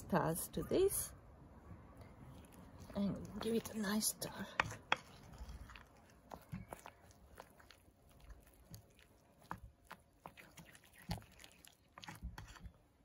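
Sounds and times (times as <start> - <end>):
spoon stirring yoghurt: 2.2 - 13.0.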